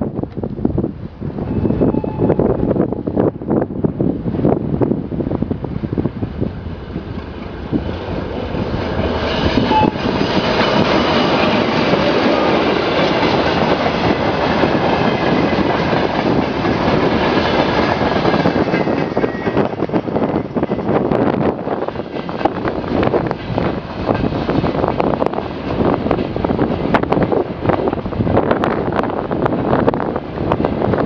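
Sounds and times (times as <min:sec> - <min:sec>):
diesel locomotive engine: 0:00.0 - 0:31.0
train wheels on track: 0:00.0 - 0:31.0.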